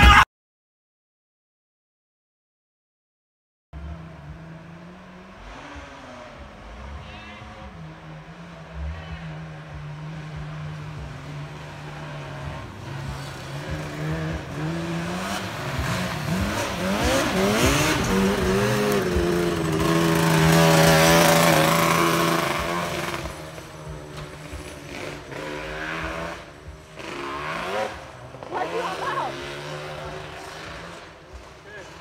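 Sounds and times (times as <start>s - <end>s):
car engine revving hard: 3.8s - 32.0s.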